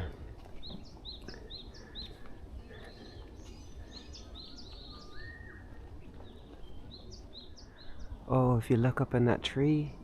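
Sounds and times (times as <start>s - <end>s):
forest birds chirping: 0.0s - 10.0s.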